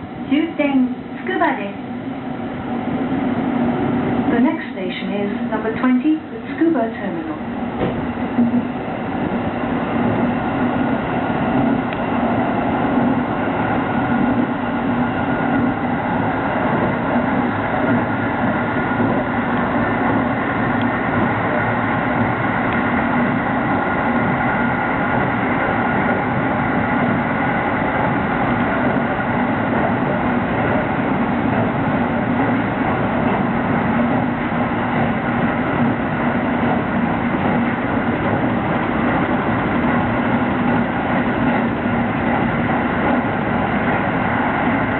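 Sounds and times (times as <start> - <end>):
train rumbling inside carriage: 0.0 - 44.9.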